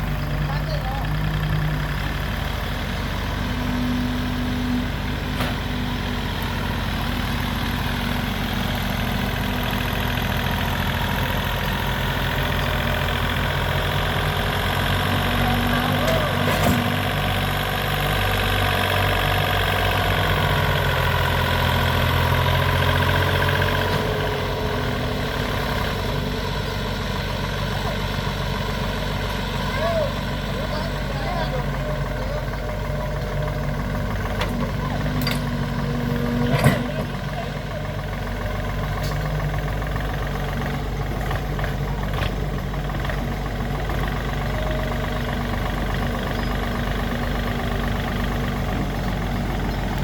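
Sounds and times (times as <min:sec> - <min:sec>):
heavy machine engine running: 0:00.0 - 0:50.0.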